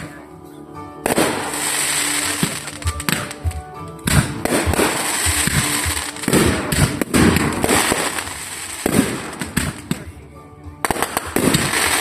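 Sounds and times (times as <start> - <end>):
fireworks bangs and crackling: 1.0 - 10.2, 10.8 - 12.0.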